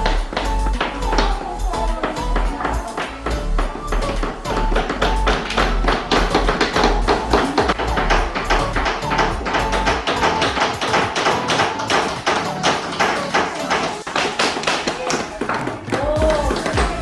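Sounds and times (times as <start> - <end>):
hammers striking wood: 2.0 - 17.0.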